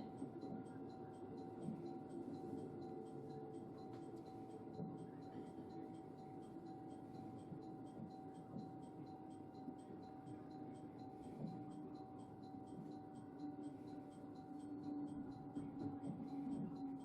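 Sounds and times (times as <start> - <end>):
train interior rumble and hum: 0.0 - 17.0.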